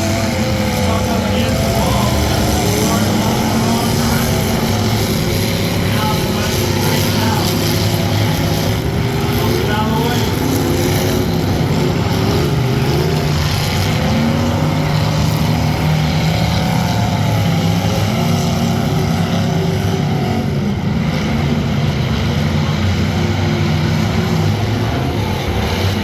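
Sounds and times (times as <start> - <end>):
loud car engines running: 0.0 - 26.0.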